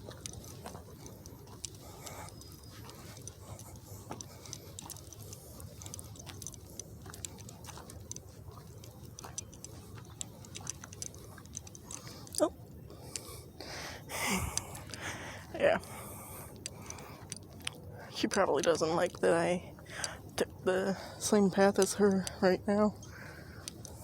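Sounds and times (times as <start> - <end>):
low outdoor background: 0.0 - 24.0.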